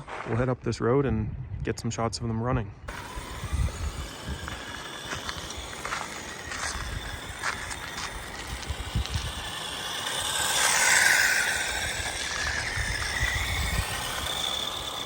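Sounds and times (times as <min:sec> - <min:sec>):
tyres crunching on gravel: 0:00.0 - 0:00.6, 0:02.9 - 0:15.0
toy truck motor whining: 0:02.9 - 0:15.0.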